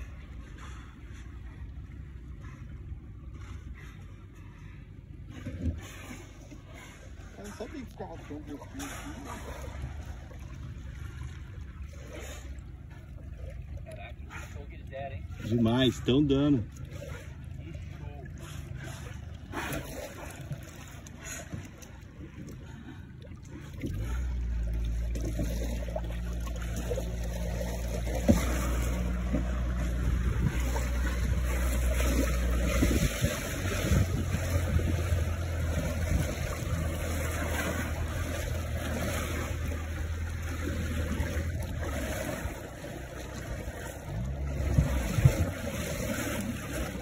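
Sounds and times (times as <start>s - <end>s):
small boat motor running: 0.0s - 47.0s
water sloshing along hull: 0.0s - 47.0s.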